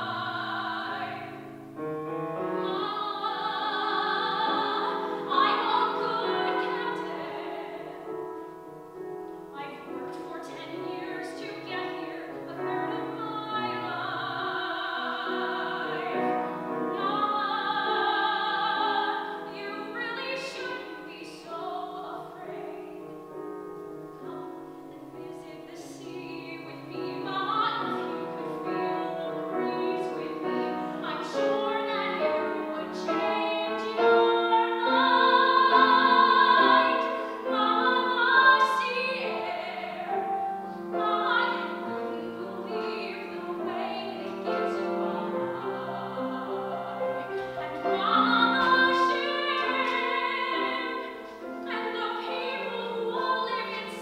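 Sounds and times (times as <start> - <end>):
person singing with vibrato: 0.0 - 1.6, 2.4 - 8.2, 9.5 - 23.0, 24.2 - 54.0
piano accompaniment: 0.0 - 54.0.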